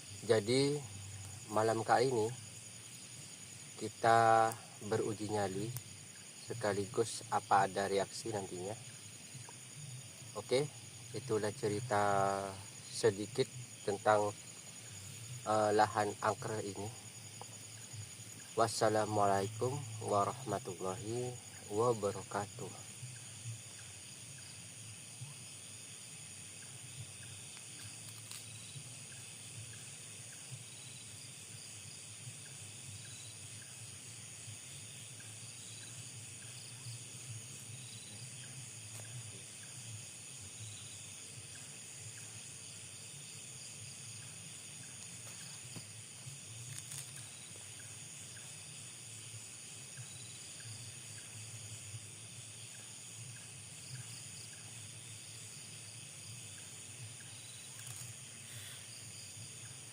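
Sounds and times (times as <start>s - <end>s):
crickets and insects droning: 0.0s - 59.9s.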